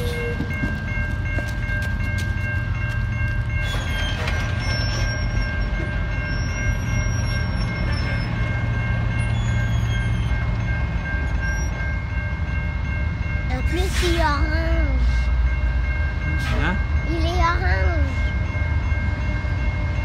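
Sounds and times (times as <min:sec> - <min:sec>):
crossing bell ringing: 0:00.0 - 0:20.0
train low rumble: 0:00.0 - 0:20.0.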